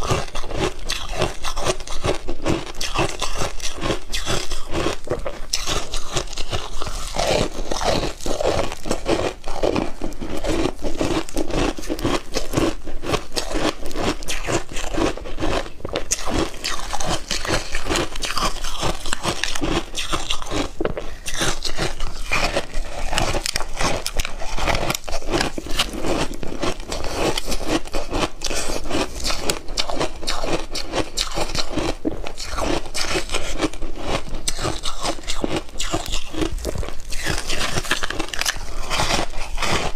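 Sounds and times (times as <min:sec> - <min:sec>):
ice being bitten and chewed: 0:00.0 - 0:39.9.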